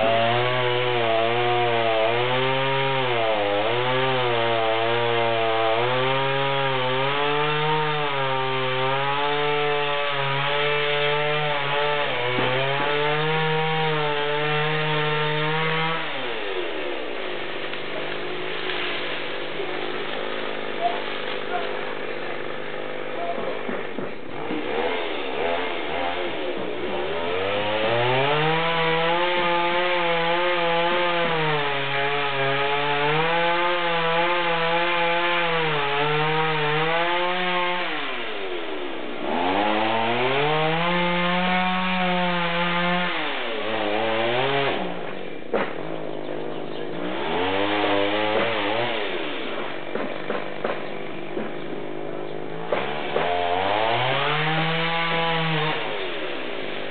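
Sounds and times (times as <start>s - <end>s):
chainsaw revving and cutting wood: 0.0s - 56.9s.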